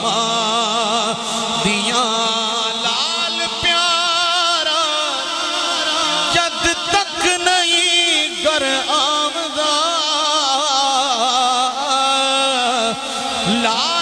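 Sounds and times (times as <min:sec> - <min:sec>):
man singing with vibrato: 0:00.0 - 0:14.0.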